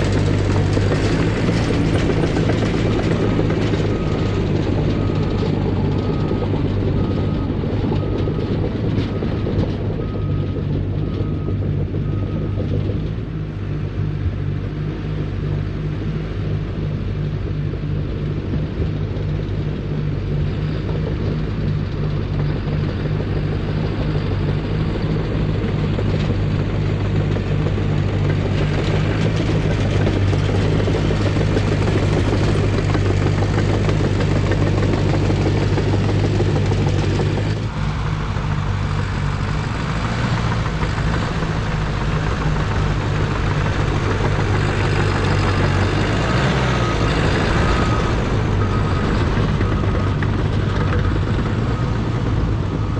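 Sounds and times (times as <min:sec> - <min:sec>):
dozer diesel engine running: 0:00.0 - 0:52.9.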